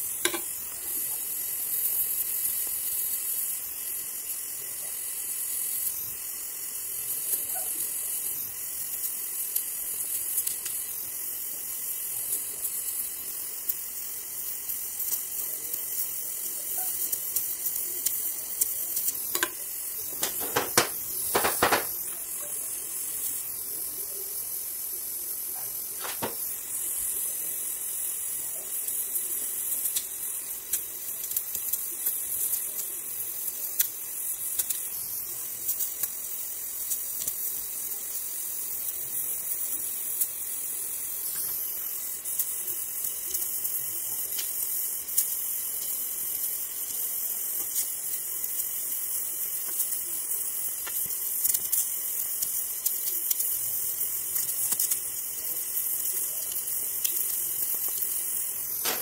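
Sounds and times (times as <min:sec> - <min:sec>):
welding torch flame hissing: 0:00.0 - 0:59.0.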